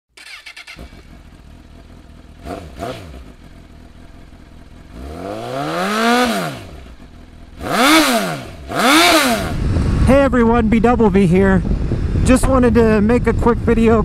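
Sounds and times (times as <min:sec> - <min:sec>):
motorcycle engine idling and revving: 0:00.1 - 0:14.0.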